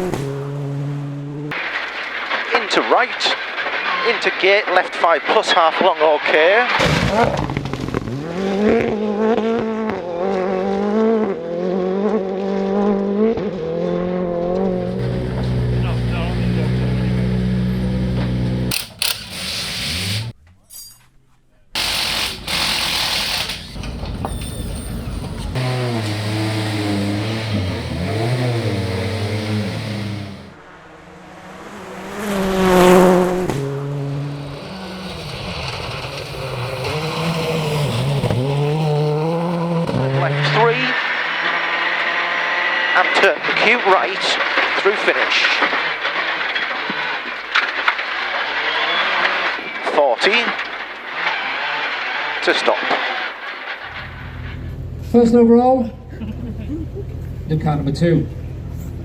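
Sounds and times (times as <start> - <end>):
rally car engine at high revs: 0.0 - 2.6, 6.2 - 20.4, 21.8 - 24.0, 25.2 - 54.7.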